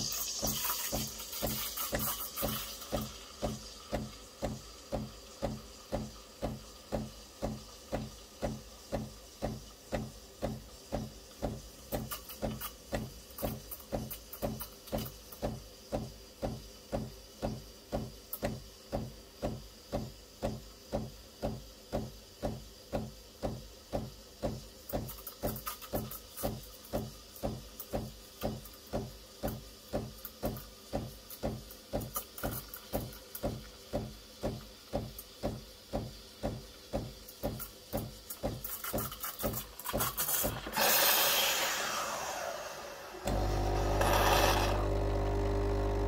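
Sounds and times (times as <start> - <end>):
espresso machine pump pulsing: 0.0 - 46.0
faint steam hiss: 0.0 - 46.0.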